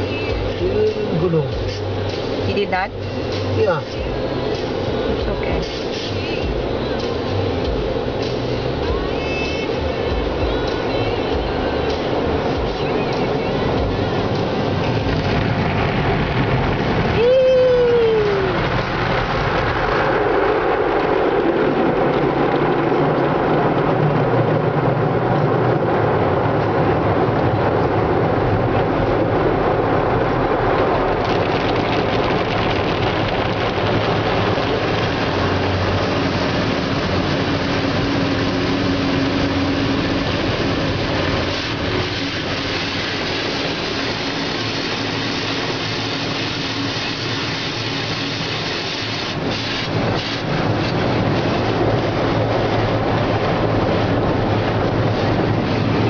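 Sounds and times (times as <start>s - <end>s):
car wash machinery: 0.0s - 56.0s
car wash spraying water: 0.0s - 56.0s.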